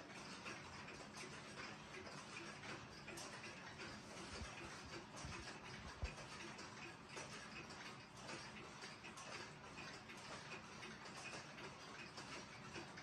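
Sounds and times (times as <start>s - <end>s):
pendulum clocks ticking: 0.0s - 13.0s.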